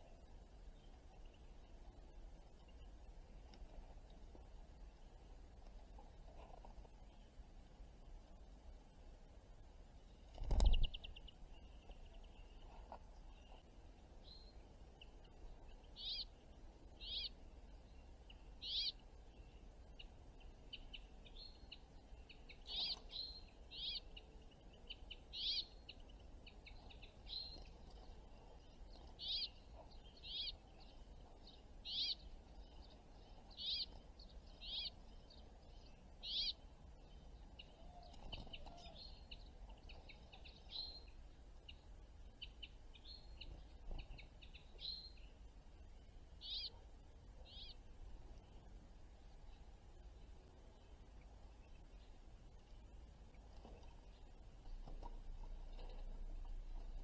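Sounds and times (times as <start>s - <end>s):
songbird calling: 10.6s - 57.0s.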